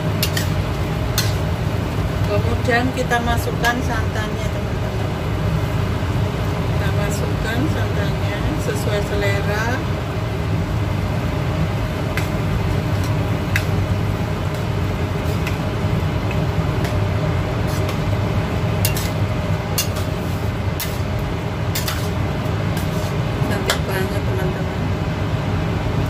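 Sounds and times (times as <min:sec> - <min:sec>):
gas stove burner rumble: 0:00.0 - 0:26.0.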